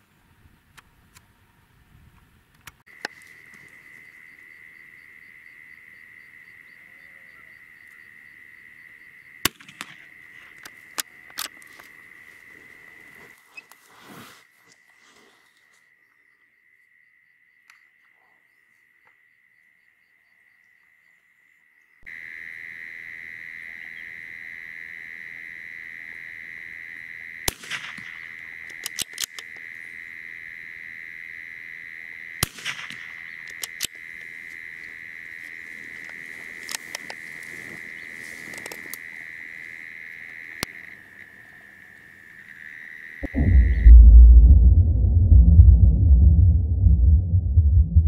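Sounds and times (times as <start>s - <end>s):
crickets chirring: 2.9s - 43.8s.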